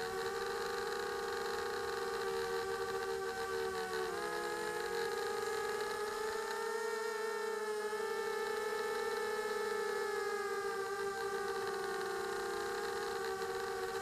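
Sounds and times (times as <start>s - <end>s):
electric motors and propellers whining: 2.0s - 14.0s.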